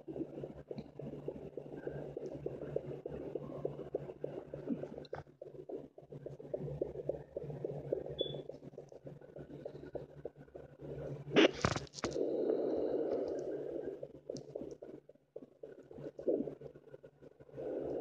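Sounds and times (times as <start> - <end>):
steady electronic hum: 0.0 - 18.0.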